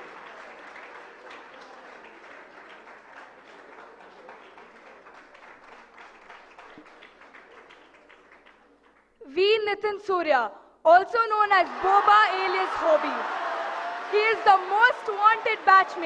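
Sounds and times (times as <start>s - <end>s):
audience applause: 0.0s - 9.1s, 11.5s - 16.0s.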